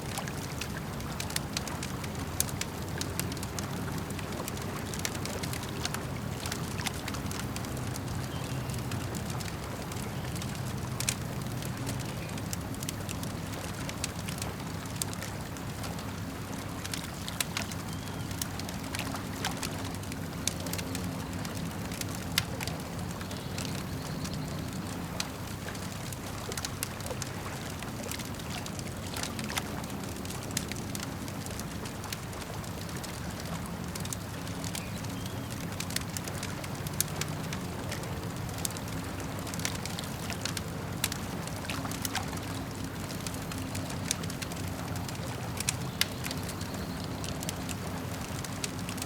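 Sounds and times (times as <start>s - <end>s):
campfire crackling and popping: 0.0s - 49.0s
lake water lapping: 0.0s - 49.0s.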